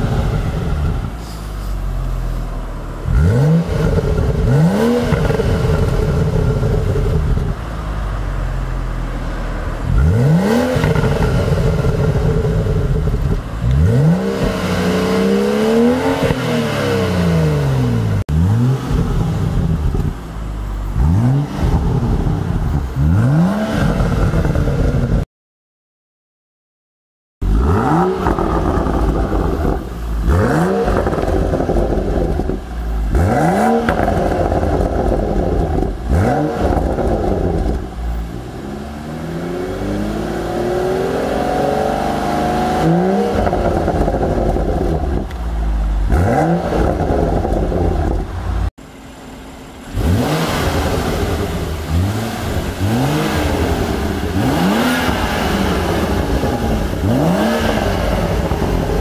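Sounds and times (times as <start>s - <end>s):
car engine revving: 0.0s - 25.2s, 27.4s - 59.0s.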